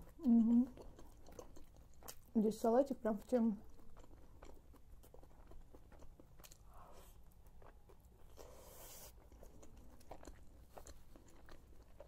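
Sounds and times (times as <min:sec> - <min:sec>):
close chewing: 0:00.0 - 0:12.0.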